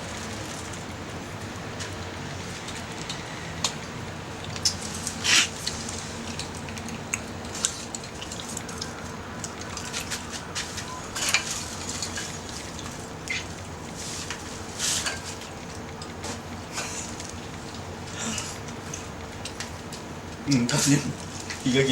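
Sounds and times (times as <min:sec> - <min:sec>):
wood fire crackling and popping: 0:00.0 - 0:21.9.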